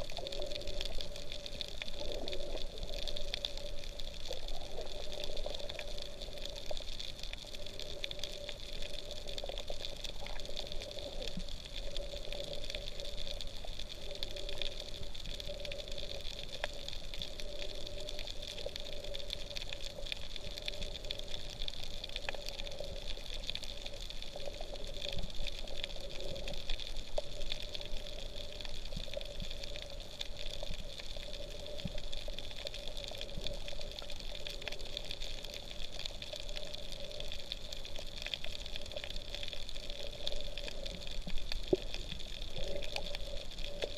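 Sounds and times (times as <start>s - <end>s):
faint crackling clicks: 0.0s - 43.9s
underwater hiss: 0.0s - 43.9s.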